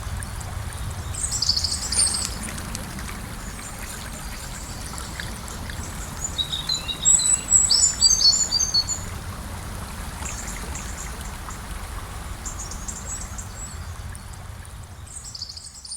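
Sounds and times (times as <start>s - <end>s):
river flowing: 0.0s - 15.8s.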